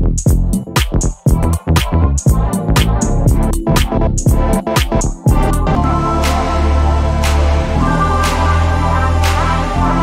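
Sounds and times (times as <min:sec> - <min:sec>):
electronic music with drum-machine beat: 0:00.0 - 0:10.0.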